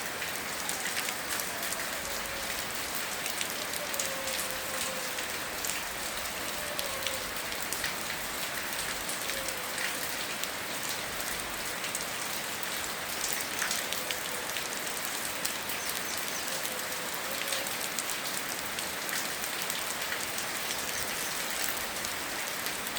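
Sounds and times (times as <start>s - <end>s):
steady rain: 0.0s - 22.9s.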